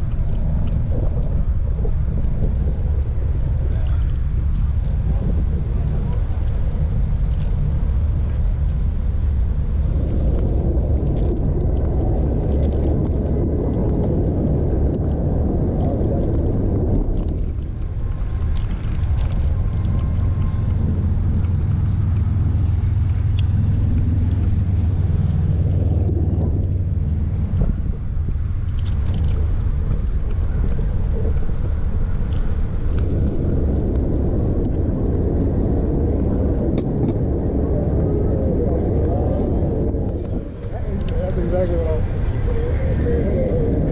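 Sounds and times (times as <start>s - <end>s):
bicycle rolling noise: 0.0s - 43.9s
wind rumble: 0.0s - 43.9s.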